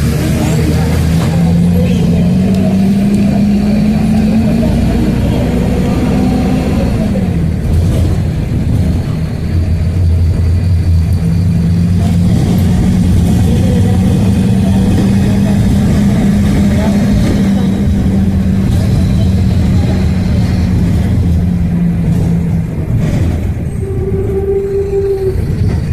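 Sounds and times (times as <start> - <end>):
vehicle engine running: 0.0 - 23.8.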